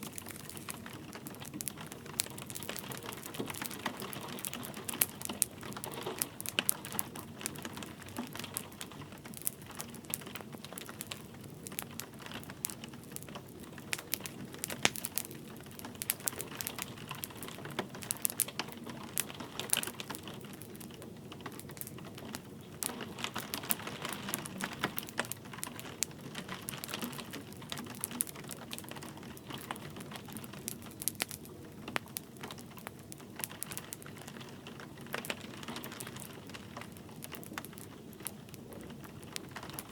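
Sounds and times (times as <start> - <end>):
light rain hiss: 0.0 - 39.9
wood fire crackling and popping: 0.0 - 39.9.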